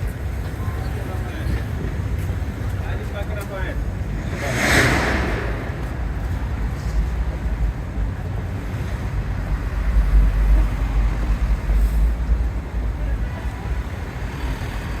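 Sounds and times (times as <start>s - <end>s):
city street traffic: 0.0s - 15.0s
wind buffeting microphone: 0.2s - 15.0s.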